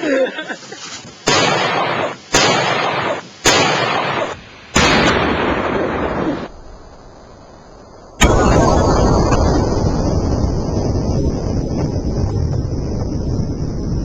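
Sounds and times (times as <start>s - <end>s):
firework shells exploding: 1.2s - 13.3s.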